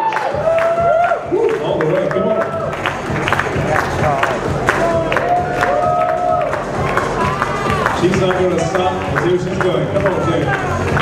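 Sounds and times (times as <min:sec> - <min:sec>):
audience cheering and clapping: 0:00.0 - 0:11.0.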